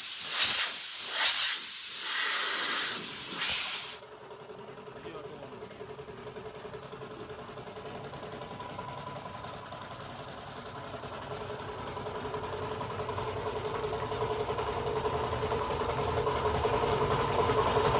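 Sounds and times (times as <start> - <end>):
air compressor running: 0.0 - 17.9.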